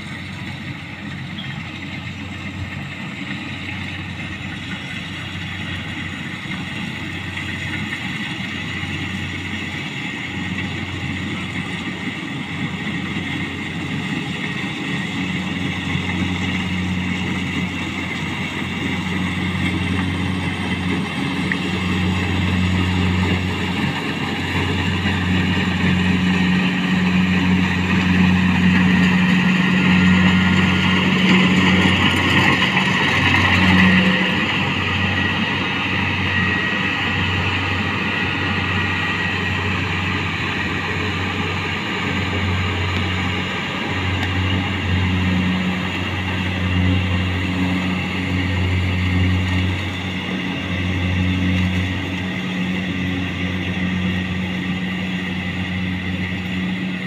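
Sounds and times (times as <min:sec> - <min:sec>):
combine harvester engine hum: 0:00.0 - 0:57.0
rushing noise: 0:00.0 - 0:57.0.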